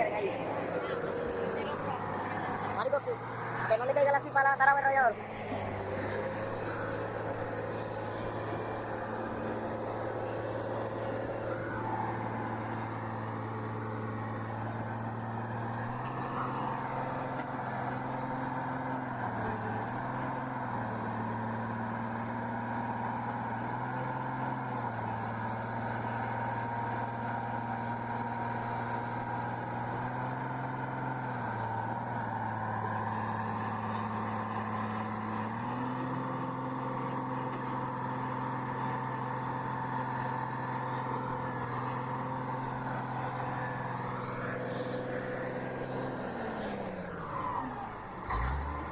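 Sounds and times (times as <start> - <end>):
heavy vehicle engine running: 0.0 - 48.9.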